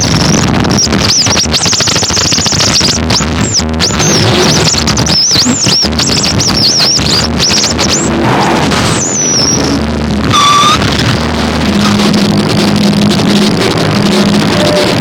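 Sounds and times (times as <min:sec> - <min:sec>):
high squealing electronic tone: 0:00.0 - 0:15.0
low drone: 0:00.0 - 0:15.0
wall of noise: 0:00.0 - 0:15.0.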